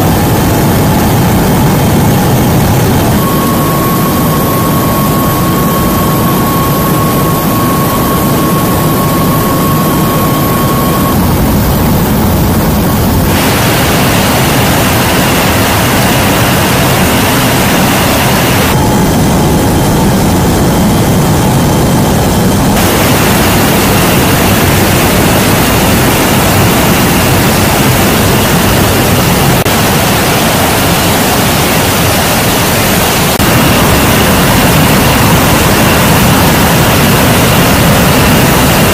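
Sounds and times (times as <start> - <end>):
aircraft engines roaring: 0.0 - 38.9.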